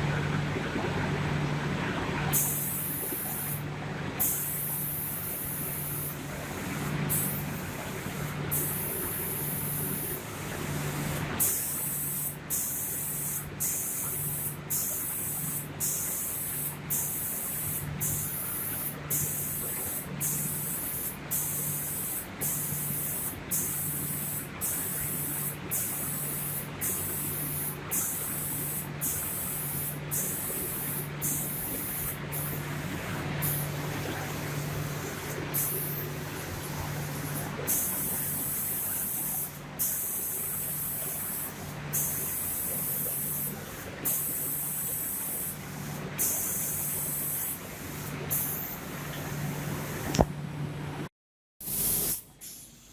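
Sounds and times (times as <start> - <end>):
low pulsing hum: 0.0 - 46.2
spray guns hissing: 4.2 - 10.3, 11.0 - 48.8, 51.6 - 52.9.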